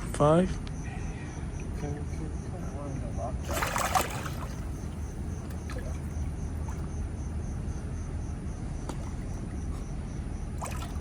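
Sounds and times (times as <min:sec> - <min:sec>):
distant city traffic rumble: 0:00.0 - 0:11.0
insect chirping: 0:00.7 - 0:11.0.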